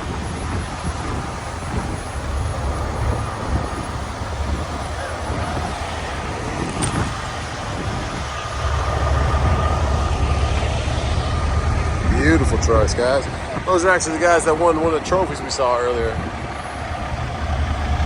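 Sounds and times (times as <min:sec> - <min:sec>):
faint steady whine: 0:00.0 - 0:18.0
traffic rumble: 0:00.0 - 0:18.0.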